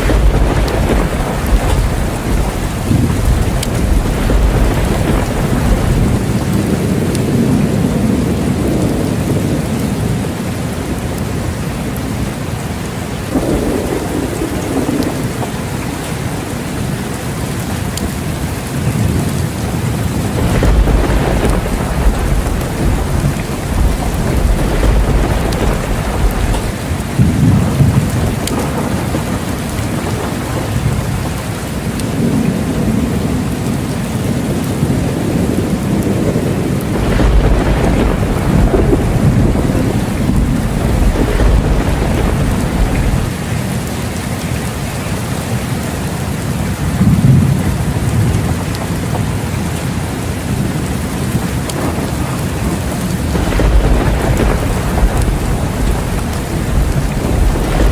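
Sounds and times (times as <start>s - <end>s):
rolling thunder: 0.0s - 11.4s, 13.3s - 16.9s, 18.0s - 43.6s, 46.4s - 57.9s
heavy rain: 0.0s - 57.9s.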